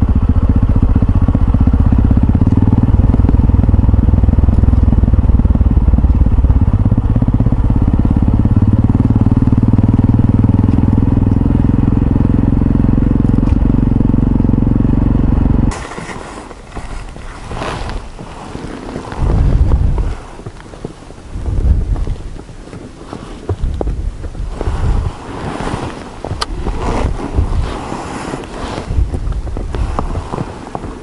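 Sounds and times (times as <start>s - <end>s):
motorcycle engine running: 0.0s - 31.0s
wind noise: 0.0s - 31.0s.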